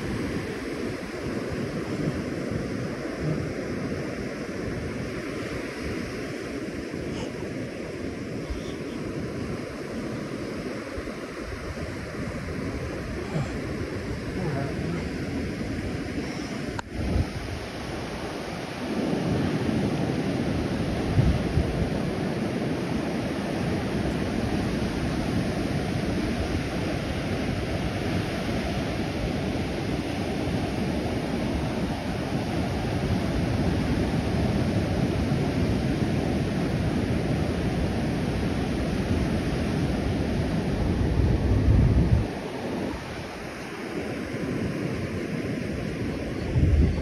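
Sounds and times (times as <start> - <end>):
ocean surf breaking: 0.0 - 46.8
wind buffeting microphone: 0.0 - 47.0.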